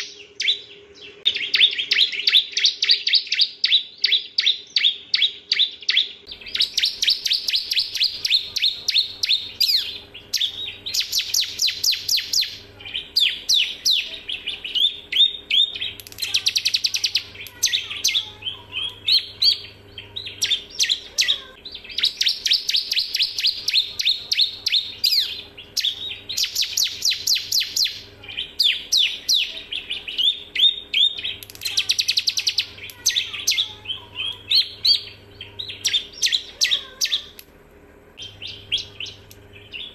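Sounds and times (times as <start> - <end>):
bird singing high chirps and trills: 0.0 - 37.4, 38.2 - 39.9
faint steady hum: 0.0 - 39.9.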